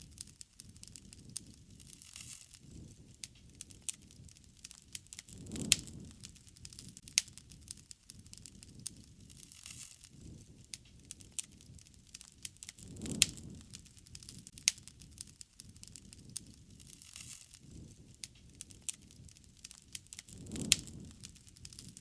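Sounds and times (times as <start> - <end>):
low rumble of flame: 0.0 - 22.0
wood fire crackling: 0.0 - 22.0.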